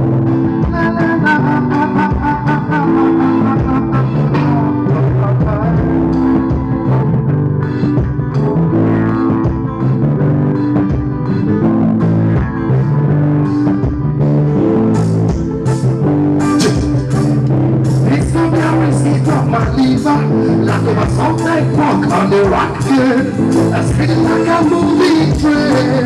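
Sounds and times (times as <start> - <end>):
acoustic guitar: 0.0 - 26.0
bass: 0.0 - 26.0
drums: 0.0 - 26.0
electric guitar: 0.0 - 26.0.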